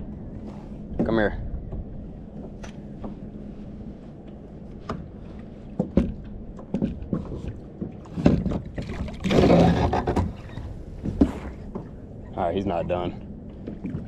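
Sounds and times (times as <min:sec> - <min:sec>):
water noise: 0:00.0 - 0:14.0
wind: 0:00.0 - 0:14.0.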